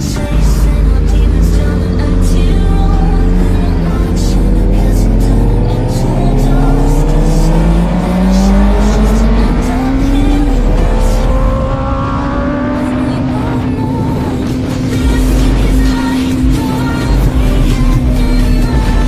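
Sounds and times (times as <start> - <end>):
motorcycle engine accelerating: 0.0 - 19.0
music: 0.0 - 19.0.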